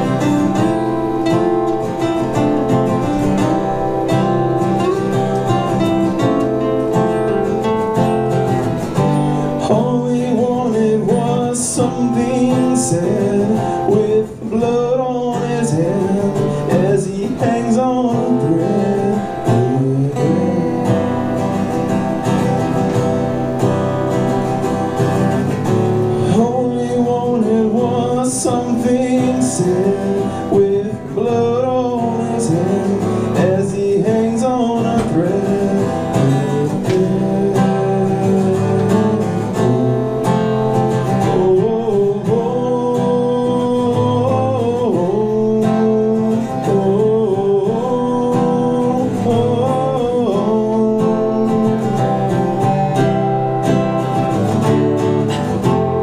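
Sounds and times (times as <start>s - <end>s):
lead guitar bending pitch: 0.0s - 56.0s
live band with guitars: 0.0s - 56.0s.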